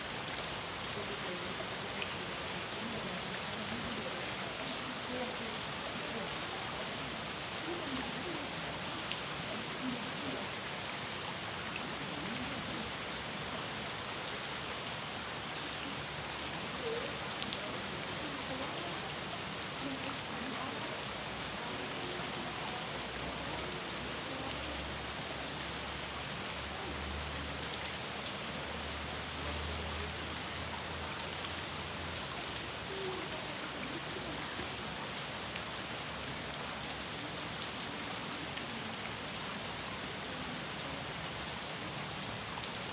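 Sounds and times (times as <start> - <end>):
rain falling on a pond: 0.0 - 42.9.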